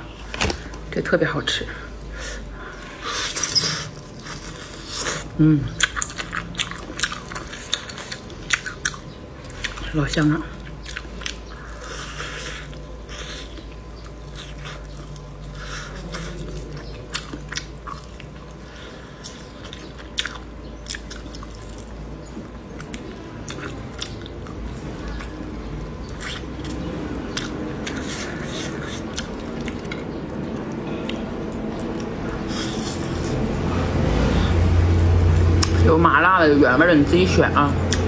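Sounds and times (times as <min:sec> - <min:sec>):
chewing with bone crunches: 0:02.0 - 0:35.8.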